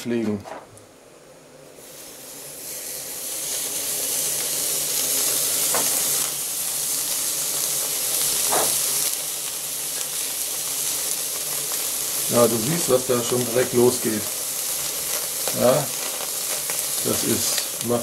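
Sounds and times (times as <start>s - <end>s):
steak sizzling on a grill: 1.8s - 18.0s.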